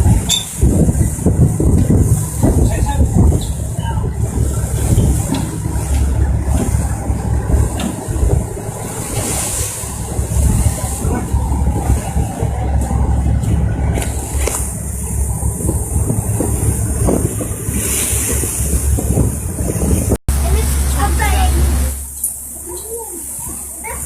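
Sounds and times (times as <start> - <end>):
wind buffeting microphone: 0.0 - 21.9
boat engine running: 0.0 - 24.0.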